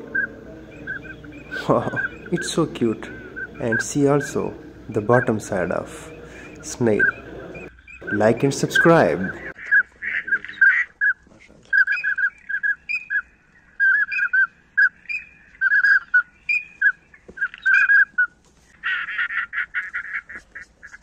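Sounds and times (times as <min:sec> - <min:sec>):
ducks calling: 0:00.0 - 0:21.0.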